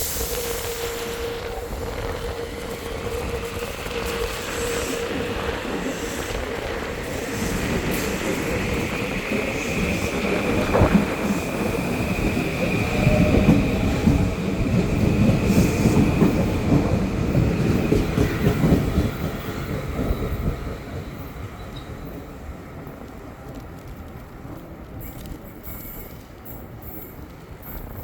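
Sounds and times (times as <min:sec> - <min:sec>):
train wheel squeal: 0:00.0 - 0:22.3, 0:25.0 - 0:28.0
train rumble: 0:00.0 - 0:28.0.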